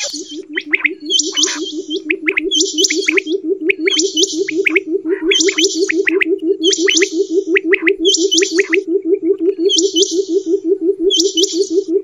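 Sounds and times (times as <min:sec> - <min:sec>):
quail calls: 0:00.0 - 0:10.3.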